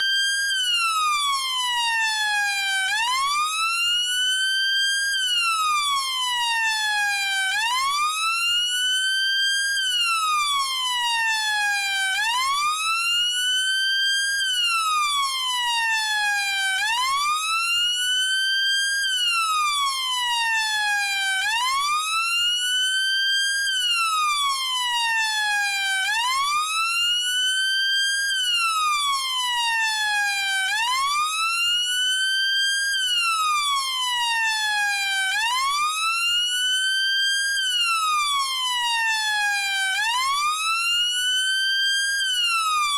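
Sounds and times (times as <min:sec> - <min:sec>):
police siren wailing: 0:00.0 - 0:03.9, 0:04.8 - 0:08.8, 0:09.4 - 0:42.9.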